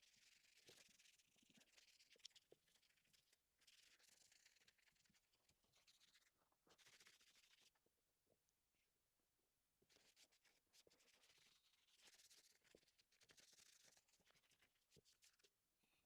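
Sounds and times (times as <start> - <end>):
faint scratching strokes: 0.0 - 7.9, 9.8 - 16.0.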